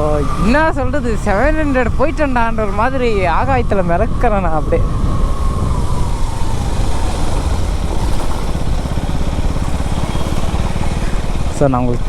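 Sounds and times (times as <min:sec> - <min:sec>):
faint engine whine: 0:00.0 - 0:12.0
motorcycle engine rumble: 0:00.0 - 0:12.0.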